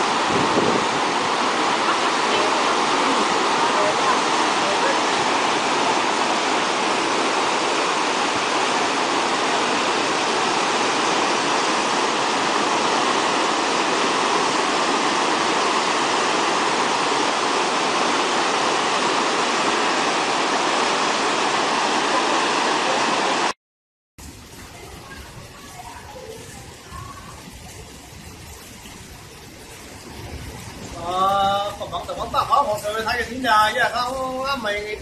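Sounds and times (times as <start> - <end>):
water rushing over rocks: 0.0 - 23.6, 24.2 - 35.0.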